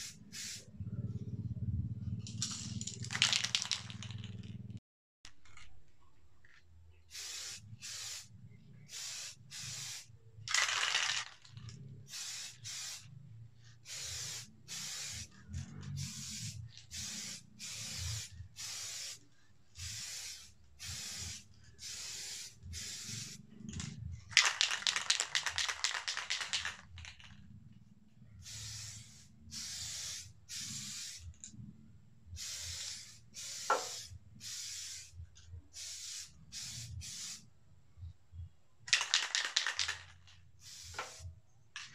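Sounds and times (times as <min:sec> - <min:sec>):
spray paint can hissing: 0:00.0 - 0:00.8, 0:02.2 - 0:04.4, 0:07.1 - 0:27.4, 0:28.4 - 0:31.4, 0:32.4 - 0:37.5, 0:38.9 - 0:41.9.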